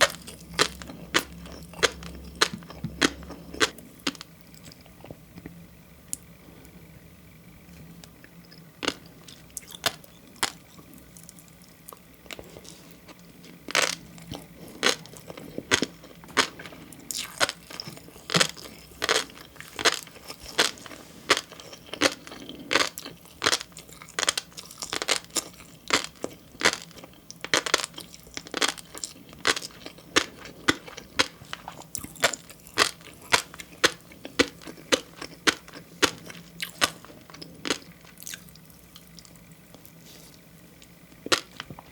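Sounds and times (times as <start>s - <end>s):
chewing fish roe popping: 0.0s - 6.4s, 7.7s - 41.9s.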